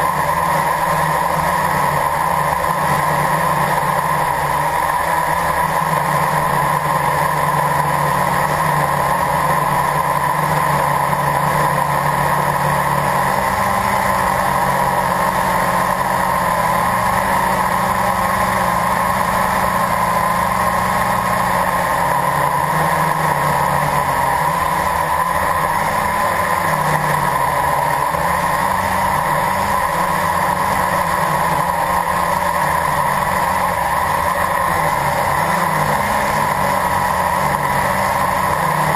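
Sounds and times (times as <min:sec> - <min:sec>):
quadcopter motors humming: 0:00.0 - 0:38.9.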